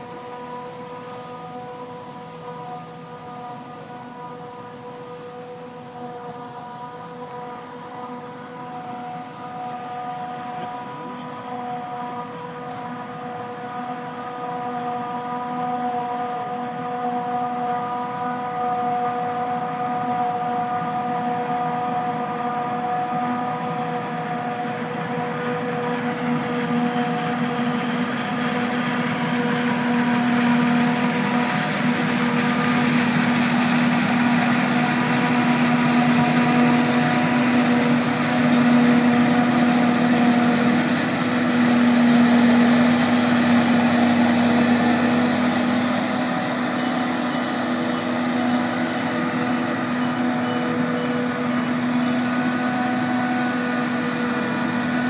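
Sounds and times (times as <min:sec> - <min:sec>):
forage harvester machine whine: 0:00.0 - 0:55.0.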